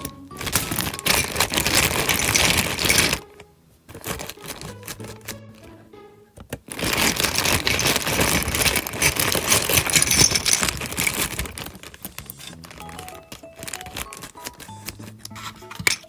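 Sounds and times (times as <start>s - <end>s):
plastic toy pieces clicking: 0.0s - 5.7s, 6.4s - 16.0s.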